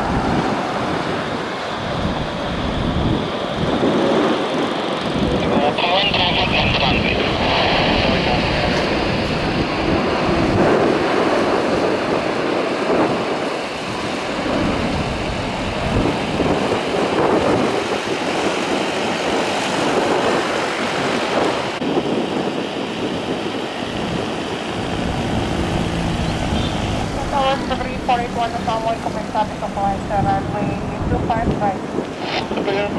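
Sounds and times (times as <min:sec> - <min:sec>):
jet engines rumbling: 0:00.0 - 0:32.9.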